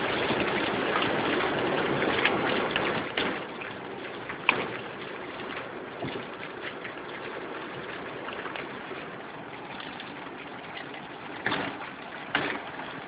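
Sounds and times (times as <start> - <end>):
raindrops pattering: 0.0 - 13.0.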